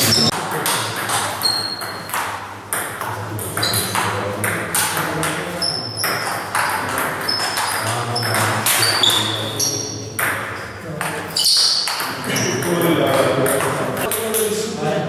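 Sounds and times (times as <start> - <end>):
table tennis ball pings: 0.0 - 14.3.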